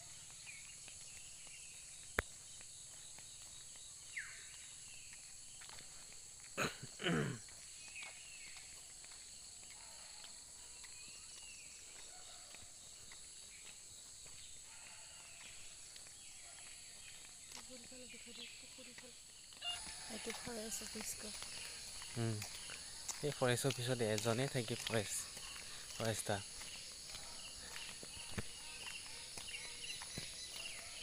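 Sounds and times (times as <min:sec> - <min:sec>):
insects chirping chorus: 0:00.0 - 0:31.0.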